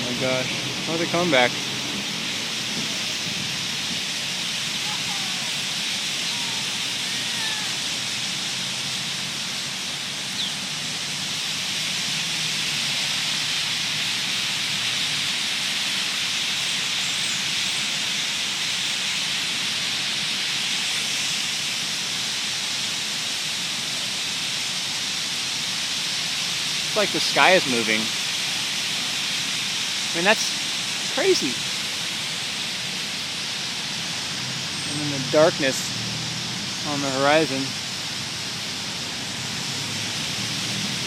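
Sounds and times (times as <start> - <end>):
huge flock of birds chirping: 0.0 - 41.0.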